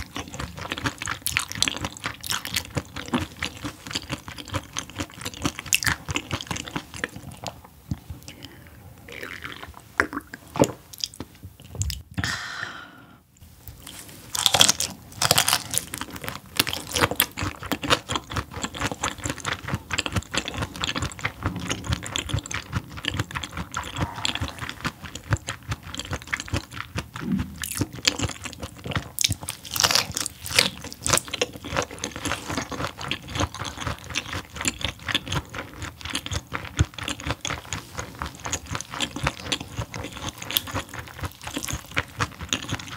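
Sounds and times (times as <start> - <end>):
chewing fish crunching bones: 0.0 - 7.7, 13.8 - 42.9.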